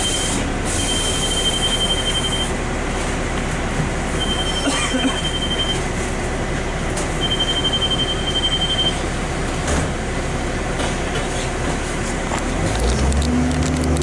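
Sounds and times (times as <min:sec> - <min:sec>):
diesel bus idling: 0:00.0 - 0:14.0.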